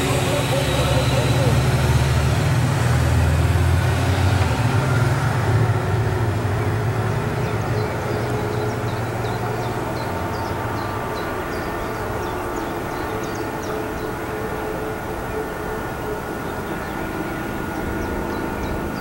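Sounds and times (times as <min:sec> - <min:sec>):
distant motor drone: 0:00.0 - 0:19.0
low engine rumble: 0:00.0 - 0:19.0.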